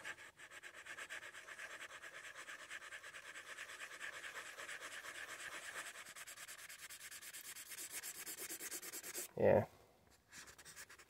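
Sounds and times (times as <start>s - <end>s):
marker scribbling on paper: 0.0s - 9.3s, 10.3s - 11.0s.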